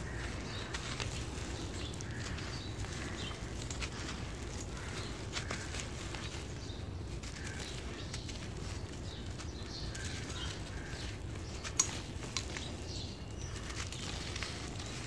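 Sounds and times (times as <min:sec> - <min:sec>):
dry clumps crunching: 0:00.0 - 0:15.0.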